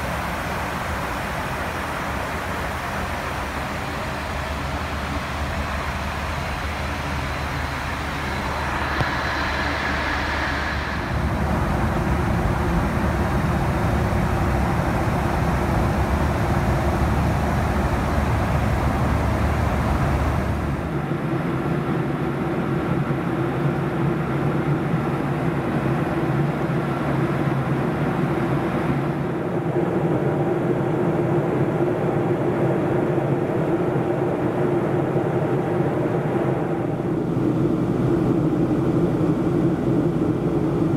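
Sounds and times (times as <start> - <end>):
airplane cabin noise: 0.0 - 40.9
steady low drone: 0.0 - 40.9.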